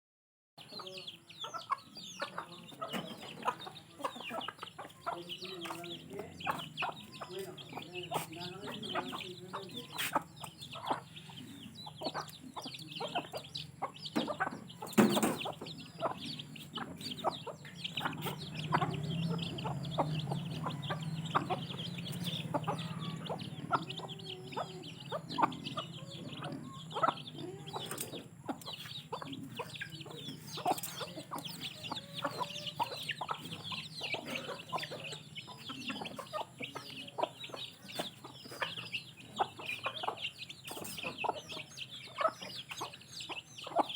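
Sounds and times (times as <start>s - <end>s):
chicks peeping: 0.6s - 43.9s
hens clucking: 0.6s - 43.9s.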